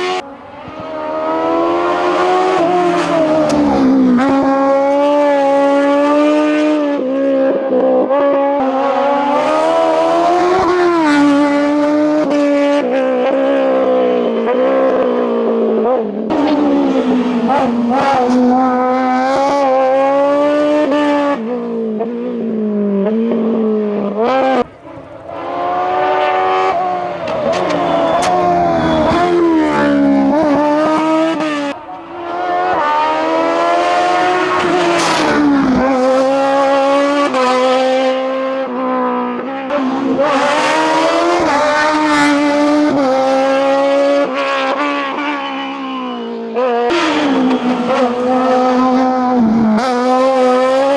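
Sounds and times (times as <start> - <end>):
race car engine at full throttle: 0.0 - 50.9.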